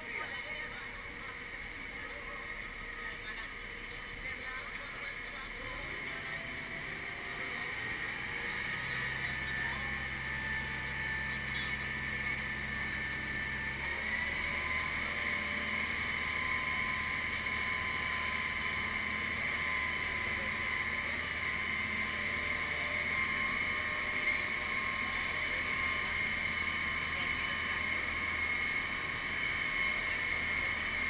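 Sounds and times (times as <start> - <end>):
engine running: 0.0 - 31.0
low hum: 0.0 - 31.0.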